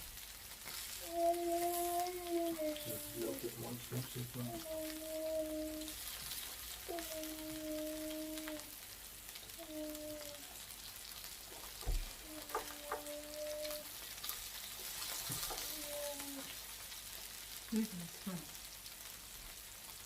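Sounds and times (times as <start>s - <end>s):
meat sizzling on a grill plate: 0.0s - 20.0s.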